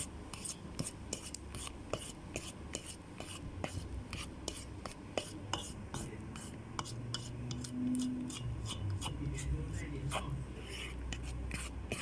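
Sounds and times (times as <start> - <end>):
fork scraping against a bowl: 0.0 - 12.0.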